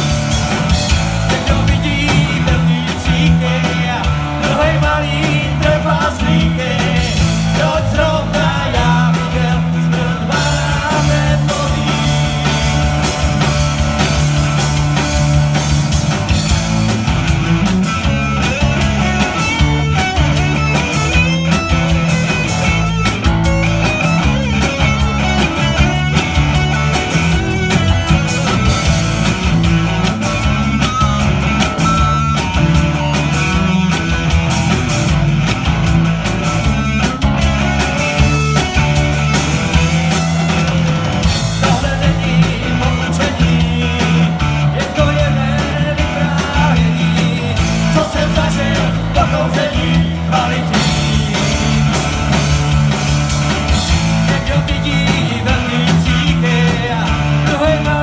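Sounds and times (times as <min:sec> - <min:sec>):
live rock band: 0:00.0 - 0:58.0.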